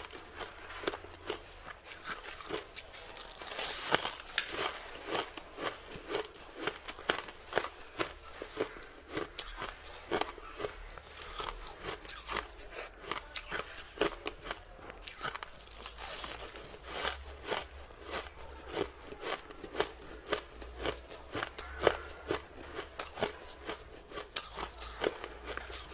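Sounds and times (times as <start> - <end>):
chewing crunchy ice: 0.0 - 25.9.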